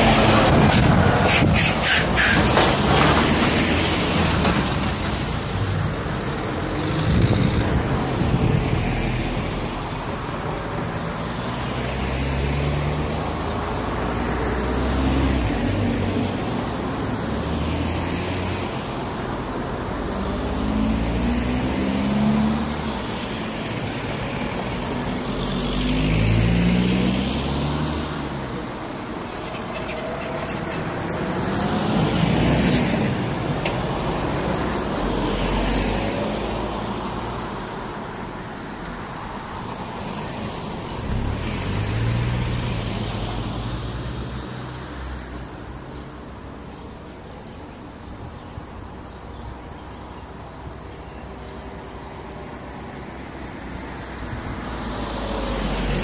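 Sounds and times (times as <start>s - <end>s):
cars and lorries passing: 0.0s - 56.0s.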